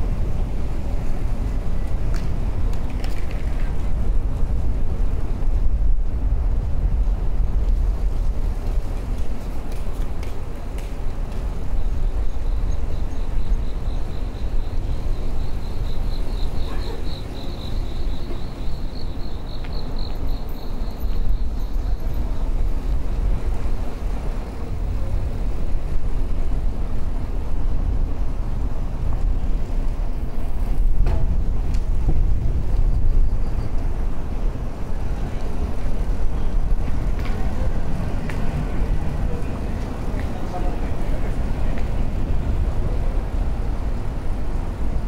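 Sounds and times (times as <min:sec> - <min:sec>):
tyres on road: 0:00.0 - 0:45.0
wind on microphone: 0:00.0 - 0:45.0.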